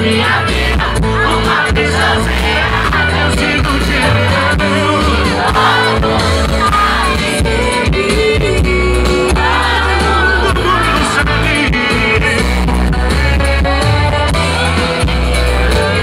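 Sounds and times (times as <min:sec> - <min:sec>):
live band music: 0:00.0 - 0:16.0
steady bass: 0:00.0 - 0:16.0.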